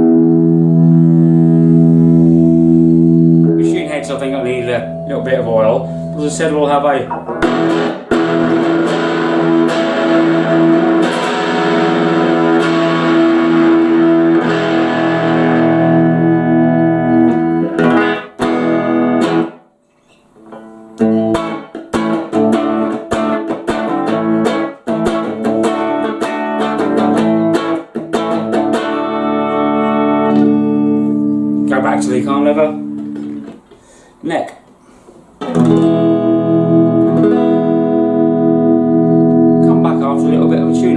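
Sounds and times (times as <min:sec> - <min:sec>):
electric guitar through amplifier: 0:00.0 - 0:19.6, 0:20.4 - 0:34.1, 0:35.1 - 0:40.9.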